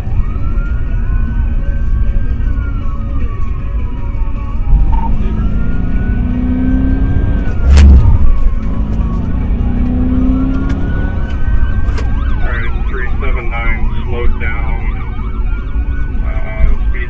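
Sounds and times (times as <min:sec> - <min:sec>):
car engine and road rumble: 0:00.0 - 0:17.0
low engine tone: 0:00.0 - 0:17.0
police siren wailing: 0:00.0 - 0:17.0.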